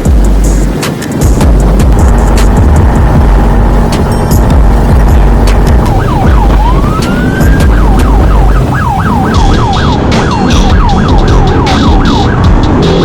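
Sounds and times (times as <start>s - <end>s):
heavy low rumble: 0.0s - 13.0s
electronic siren wailing and yelping: 1.8s - 13.0s.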